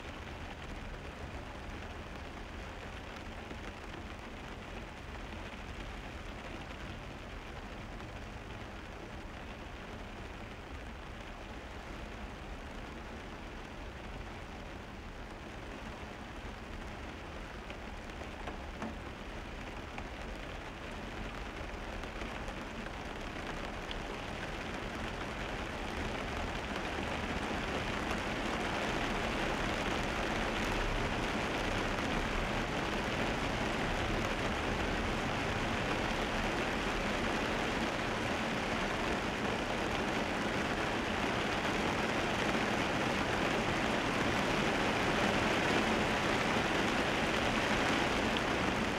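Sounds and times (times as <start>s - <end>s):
rain: 0.0s - 48.9s
tyres on wet road: 0.0s - 48.9s.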